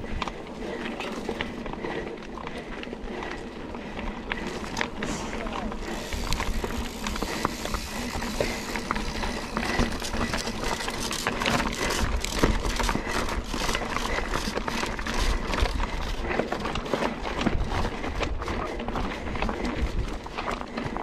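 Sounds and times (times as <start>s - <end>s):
bike rattling and knocking: 0.0s - 21.0s
wind rumbling on microphone: 3.4s - 21.0s.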